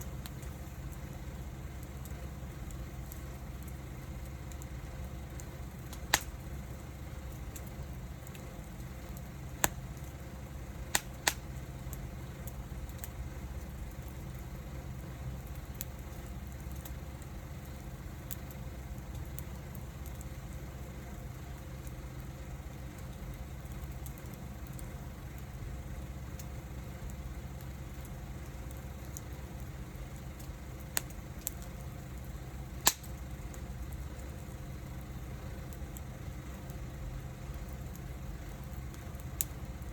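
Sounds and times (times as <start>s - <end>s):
sharp pops of fire: 0.0s - 39.9s
steady low rumble: 0.0s - 39.9s
wood fire crackling: 0.0s - 39.9s.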